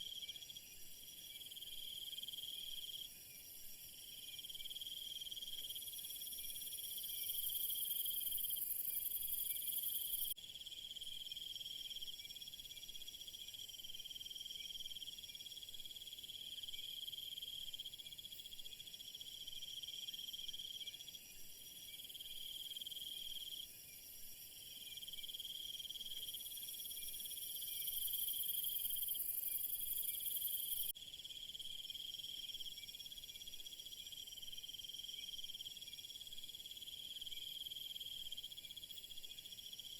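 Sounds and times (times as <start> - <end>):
insects chirping: 0.1 - 39.9.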